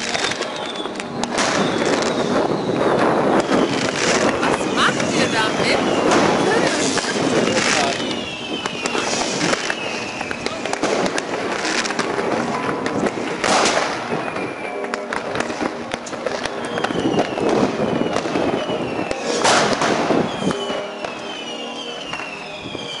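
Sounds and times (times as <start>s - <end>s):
rushing firework bursts: 0.0s - 14.5s, 15.3s - 23.0s
firecrackers crackling and banging: 0.0s - 23.0s
whistling fireworks: 0.0s - 23.0s.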